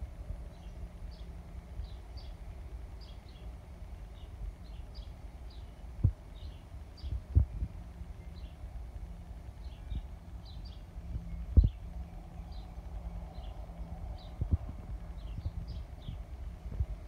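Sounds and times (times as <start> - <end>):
low steady rumble: 0.0 - 17.0
small bird chirping: 0.5 - 8.7, 9.5 - 16.3.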